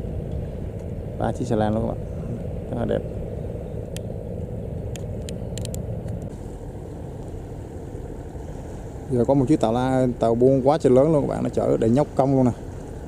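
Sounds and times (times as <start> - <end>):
diesel boat engine rumbling: 0.0 - 13.0.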